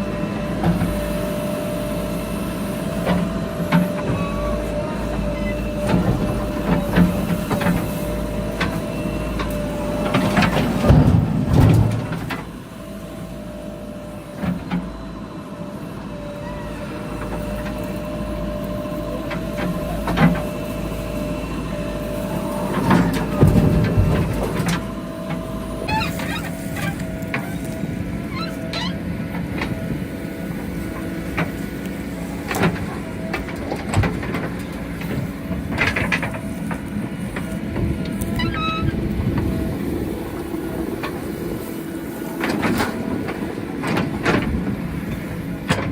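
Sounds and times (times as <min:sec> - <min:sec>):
backhoe diesel engine running: 0:00.0 - 0:45.9
constant whine: 0:00.0 - 0:45.9.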